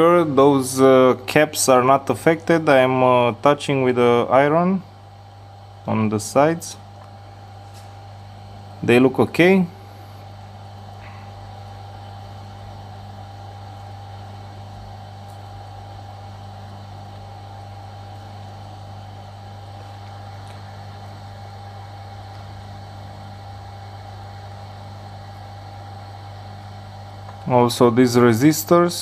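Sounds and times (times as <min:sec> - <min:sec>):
electrical hum with high tone: 0:00.0 - 0:29.0.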